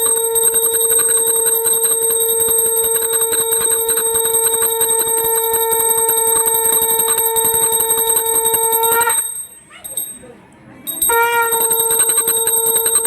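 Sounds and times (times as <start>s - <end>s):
conch shell blown: 0.0s - 9.6s, 11.0s - 13.0s
hand bell ringing rapidly: 0.0s - 13.0s.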